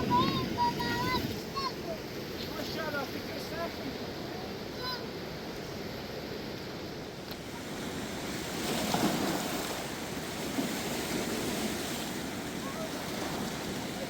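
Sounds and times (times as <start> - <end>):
fast-flowing river water: 0.0 - 14.0.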